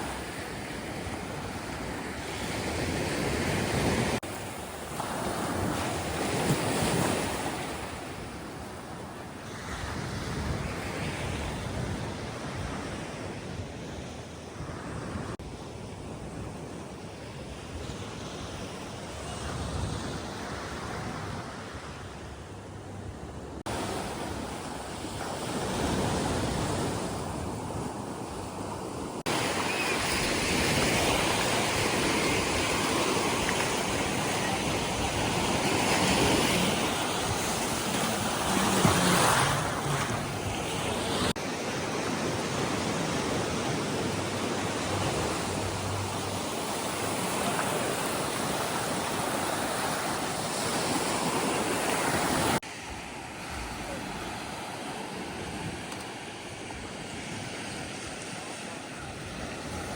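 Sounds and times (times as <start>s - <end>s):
ocean surf on sandy beach: 0.0s - 59.9s.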